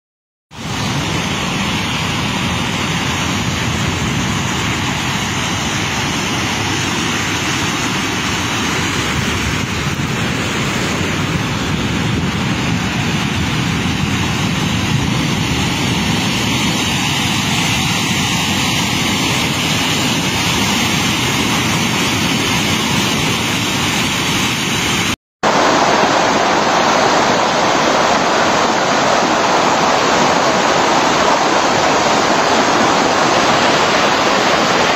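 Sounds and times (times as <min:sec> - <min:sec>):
floodwater rushing: 0:00.6 - 0:34.9.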